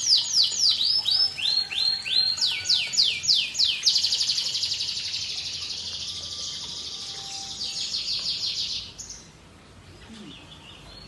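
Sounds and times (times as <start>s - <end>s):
canary singing: 0.0s - 9.4s.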